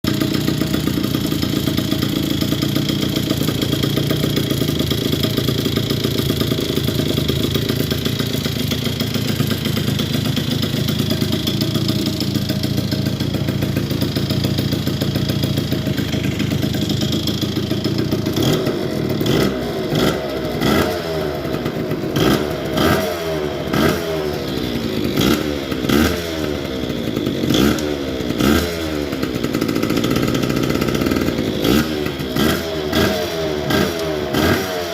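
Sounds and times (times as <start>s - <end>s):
moped engine revving: 0.1s - 34.9s.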